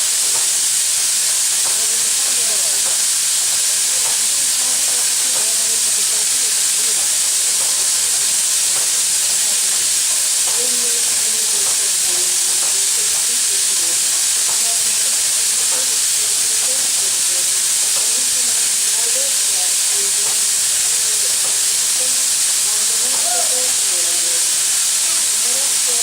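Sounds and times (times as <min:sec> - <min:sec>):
faint voices: 0:00.0 - 0:26.0
steam locomotive hissing: 0:00.0 - 0:26.0.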